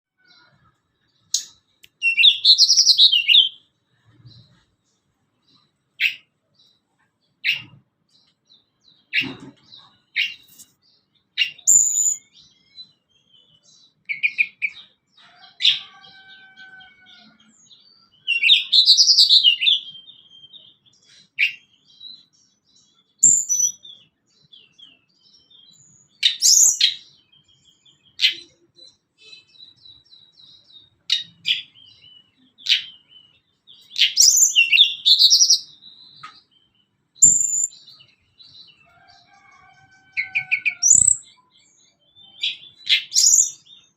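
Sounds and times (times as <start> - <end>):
bird singing sharp high calls: 0.2 - 4.6, 7.4 - 43.9.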